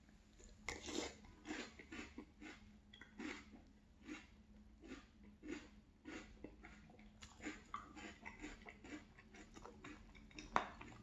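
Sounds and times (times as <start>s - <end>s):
chewing crunchy cereal: 0.4s - 11.0s.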